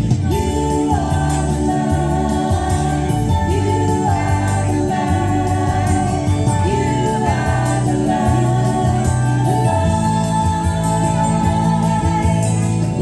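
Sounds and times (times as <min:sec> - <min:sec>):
steady drum beat: 0:00.0 - 0:12.6
person singing: 0:00.2 - 0:13.0.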